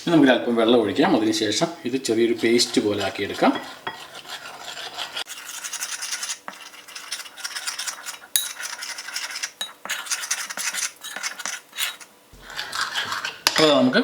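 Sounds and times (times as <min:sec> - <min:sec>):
utensil scraping bowl: 0:00.8 - 0:14.0.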